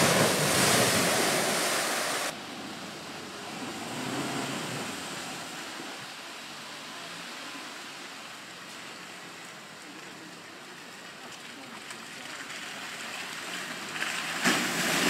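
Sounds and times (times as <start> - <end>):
vehicle splashing through water: 0.0 - 15.0
water washing around wheels: 0.0 - 15.0.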